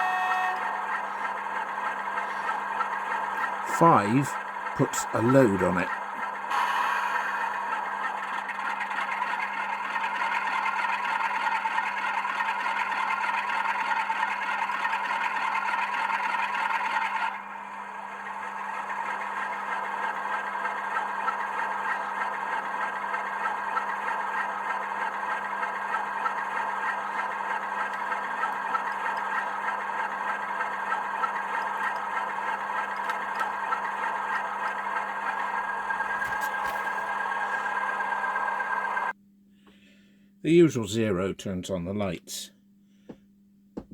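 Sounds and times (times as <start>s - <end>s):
diesel engine sound from small speaker: 0.0s - 39.2s.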